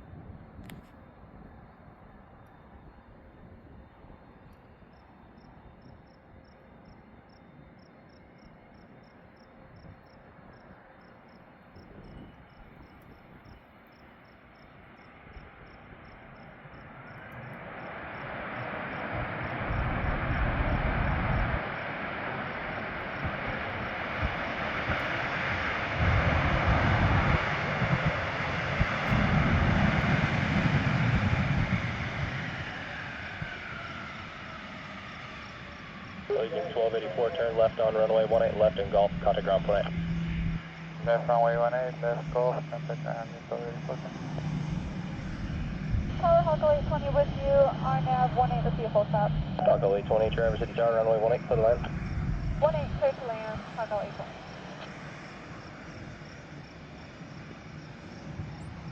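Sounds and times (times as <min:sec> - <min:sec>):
jet engine roar: 0:00.0 - 0:58.9
jet engine whine: 0:00.0 - 0:58.9
crickets chirping: 0:01.3 - 0:58.9.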